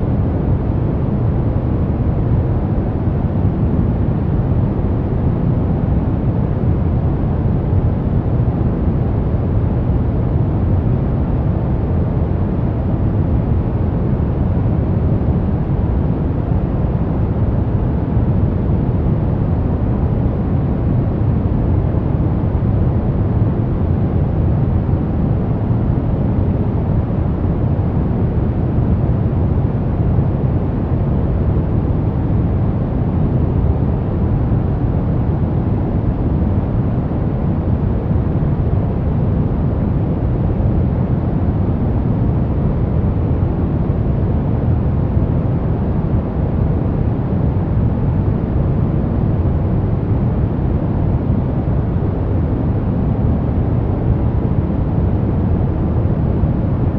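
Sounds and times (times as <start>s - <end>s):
deep rumbly white noise: 0.0s - 56.9s.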